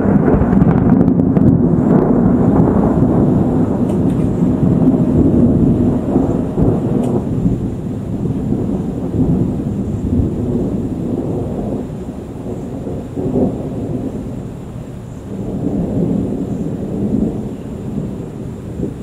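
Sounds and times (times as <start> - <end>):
rolling thunder rumble: 0.0 - 19.0.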